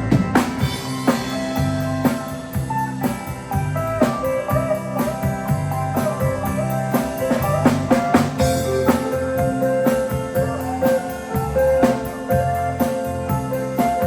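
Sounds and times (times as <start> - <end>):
bass: 0.0 - 14.0
country band playing: 0.0 - 14.0
drum kit beat: 0.0 - 14.0
sliding lead guitar line: 0.0 - 14.0.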